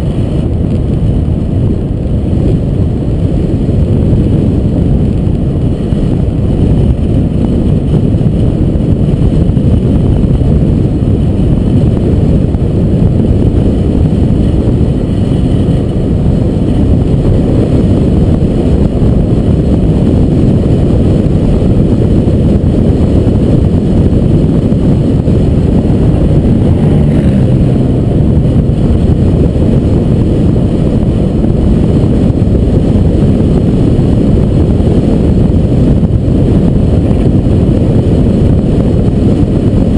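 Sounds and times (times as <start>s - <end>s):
car driving on paved road: 0.0s - 39.9s.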